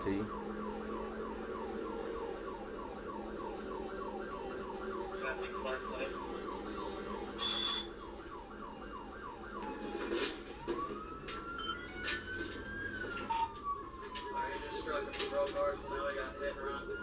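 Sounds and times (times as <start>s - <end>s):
police siren yelping: 0.0s - 17.0s.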